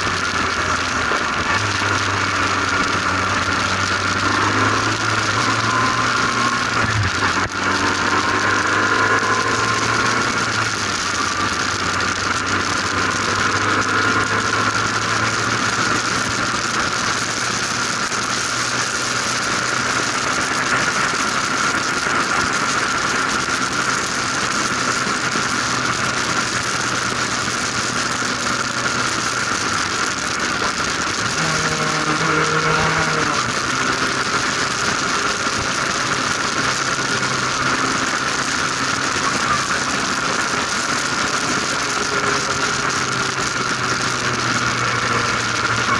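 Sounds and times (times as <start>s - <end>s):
high whine: 0.0s - 45.9s
race car engine: 0.0s - 45.9s.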